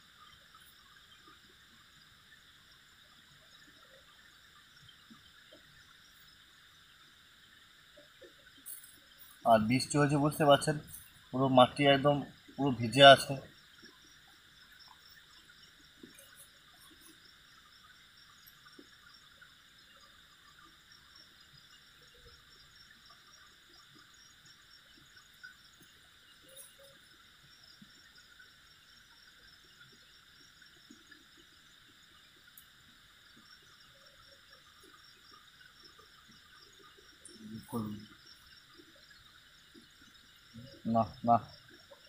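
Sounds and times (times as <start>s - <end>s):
night insects chorus: 0.0s - 42.0s.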